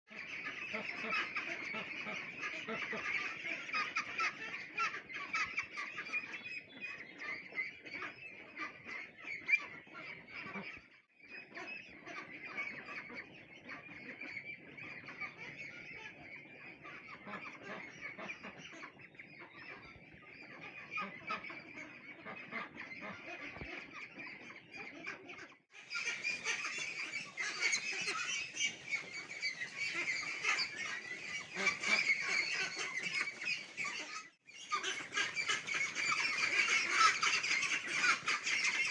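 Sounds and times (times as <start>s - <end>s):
flock of ducklings calling: 0.1s - 38.9s.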